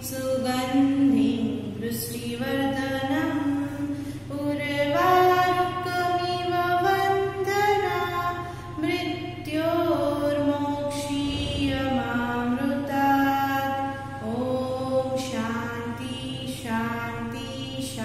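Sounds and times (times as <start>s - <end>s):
steady low hum: 0.0s - 18.0s
woman singing a prayer chant: 0.0s - 18.0s.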